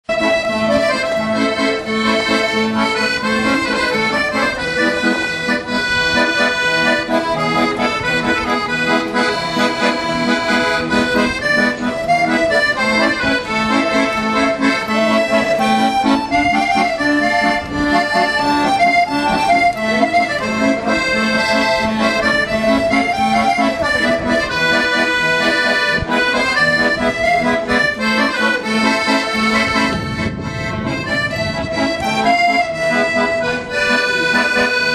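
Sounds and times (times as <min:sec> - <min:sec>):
button accordion playing: 0:00.0 - 0:34.9.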